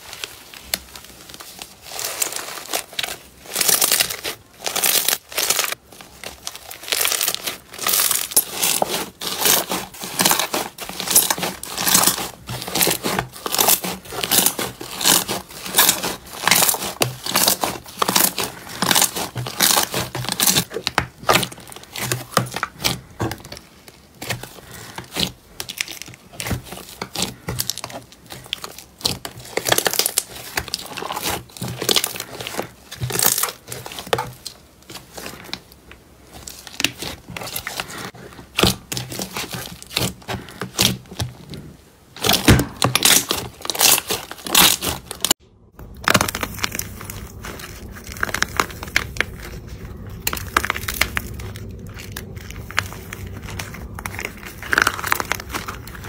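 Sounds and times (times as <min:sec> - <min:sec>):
paper strips crinkling: 0:00.0 - 0:56.0
slime crackling and popping: 0:00.0 - 0:56.0.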